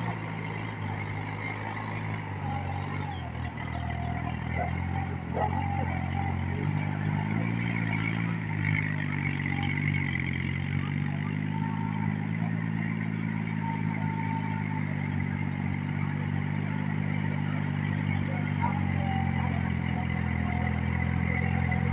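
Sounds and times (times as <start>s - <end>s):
tractor engine running under load: 0.0s - 21.9s.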